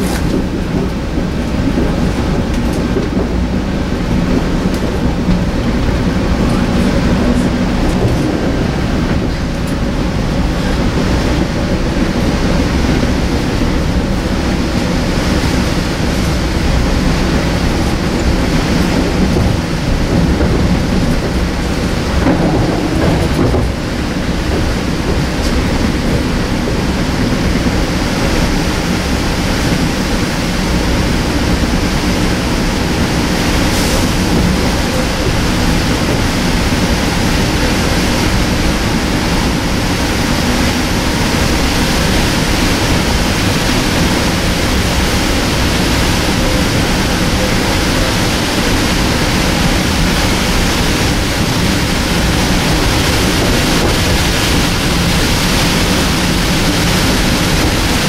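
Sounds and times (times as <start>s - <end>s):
train rushing rumble on board: 0.0s - 58.0s.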